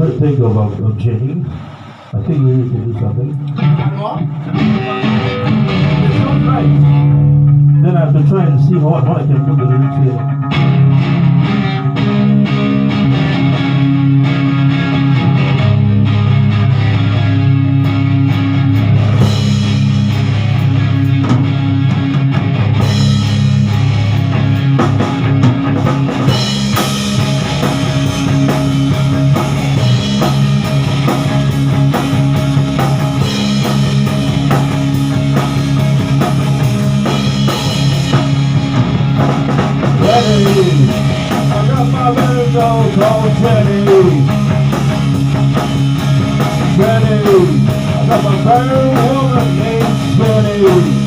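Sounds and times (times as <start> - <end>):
rock band instrumental: 1.5 - 51.0.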